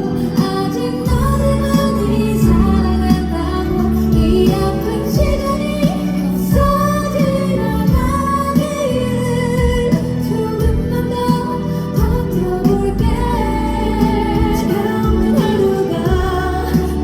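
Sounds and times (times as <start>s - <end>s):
band accompaniment: 0.0s - 17.0s
women singing pop ballad: 0.0s - 17.0s.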